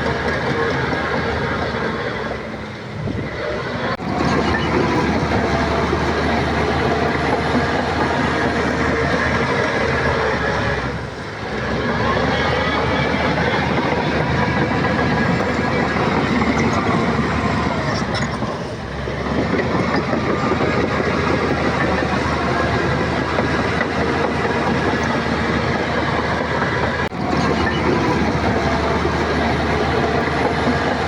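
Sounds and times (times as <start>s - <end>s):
diesel engine under load: 0.0s - 31.0s
steel tracks clanking: 0.0s - 31.0s.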